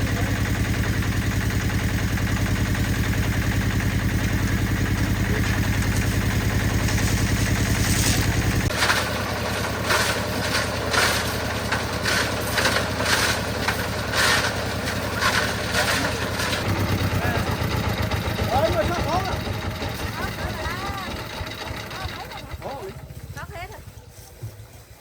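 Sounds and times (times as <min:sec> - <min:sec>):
concrete mixer engine running: 0:00.0 - 0:24.6.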